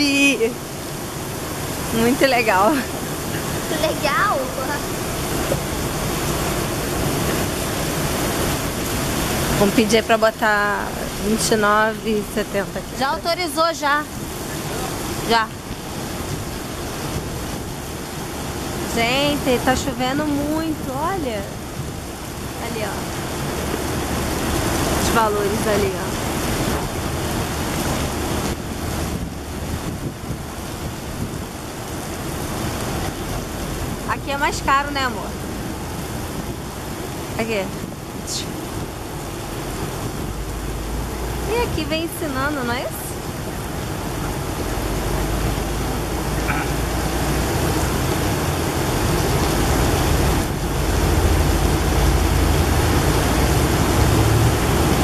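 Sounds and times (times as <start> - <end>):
heavy rain pouring: 0.0 - 55.0
wind buffeting microphone: 1.1 - 55.0.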